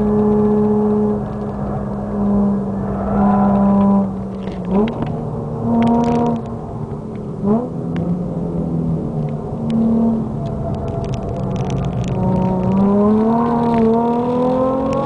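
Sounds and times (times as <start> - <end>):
car engine at speed: 0.0 - 15.0.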